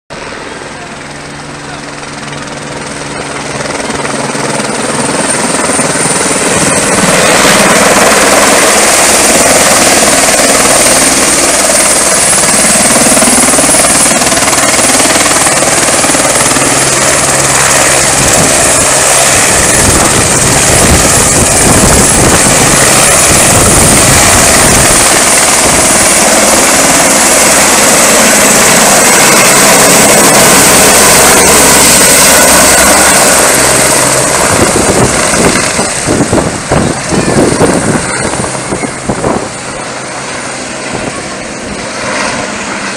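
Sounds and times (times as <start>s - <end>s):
helicopter rotor with high whine: 0.1s - 42.9s.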